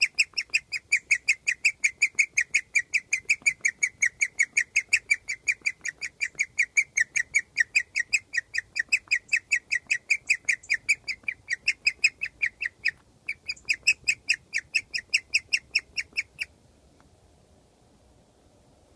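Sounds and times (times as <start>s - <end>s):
guinea pig chirping: 0.0s - 16.5s.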